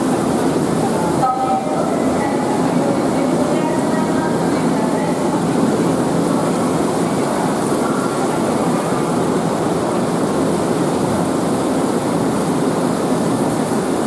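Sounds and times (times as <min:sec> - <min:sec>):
heavy downpour roaring: 0:00.0 - 0:14.0.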